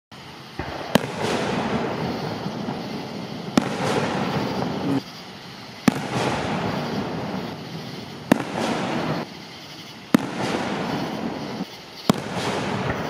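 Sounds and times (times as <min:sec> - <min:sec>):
firework shells bursting: 0:00.4 - 0:13.0.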